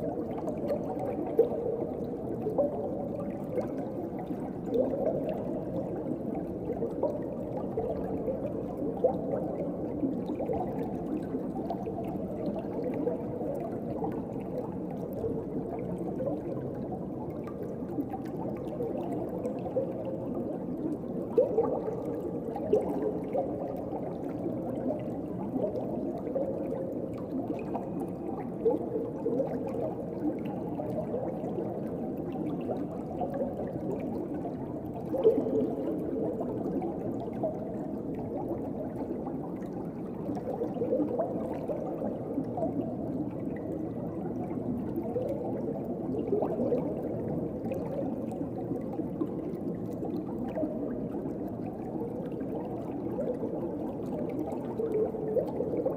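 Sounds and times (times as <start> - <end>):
muffled underwater water wash: 0.0 - 55.9
water bubbling and gurgling: 0.0 - 55.9.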